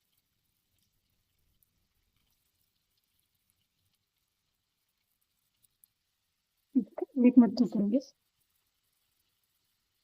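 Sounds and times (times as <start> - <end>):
onions frying crackles: 0.0 - 10.0.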